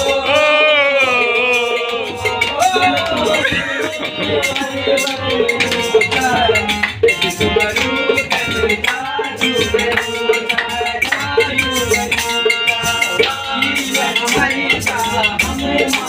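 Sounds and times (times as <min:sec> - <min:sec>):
fast rattling percussion: 0:00.0 - 0:16.0
harmonium tune: 0:00.0 - 0:16.0.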